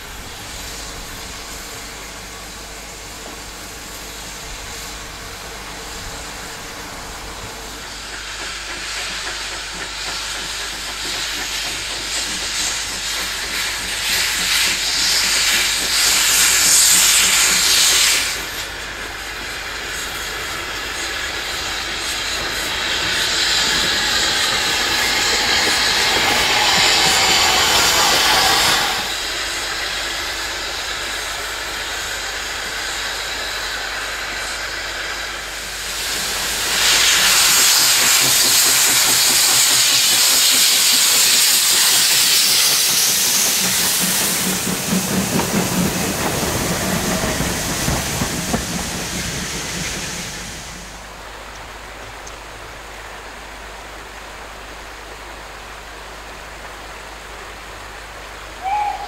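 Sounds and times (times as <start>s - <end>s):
steam locomotives hissing: 0.0s - 54.4s, 55.9s - 59.0s
loud steam blowing from drain cocks: 0.0s - 59.0s
steam engines working past: 0.0s - 59.0s.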